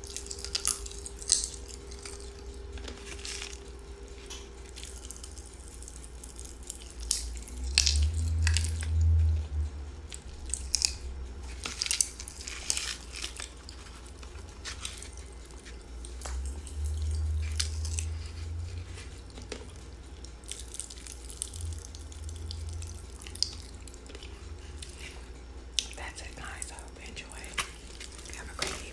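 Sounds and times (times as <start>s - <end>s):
chewing: 0.0s - 28.9s
popping candy crackling: 0.0s - 28.9s
low rumble: 5.6s - 28.9s.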